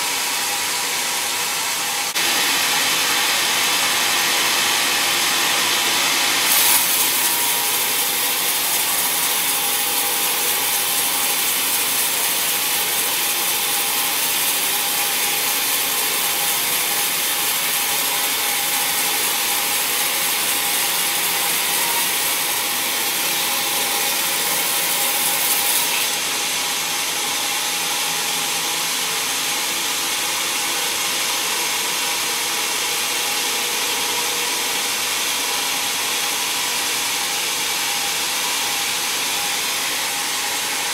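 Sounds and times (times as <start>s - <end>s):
band saw cutting through log: 0.0s - 40.9s.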